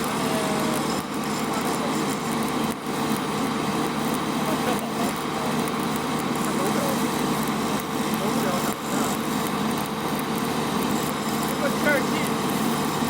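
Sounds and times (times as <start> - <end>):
arc welding crackle: 0.0 - 13.0.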